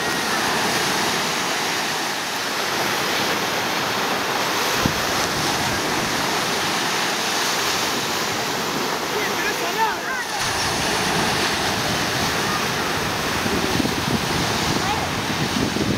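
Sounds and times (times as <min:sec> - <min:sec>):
surf rushing: 0:00.0 - 0:15.9
wind: 0:00.0 - 0:15.9.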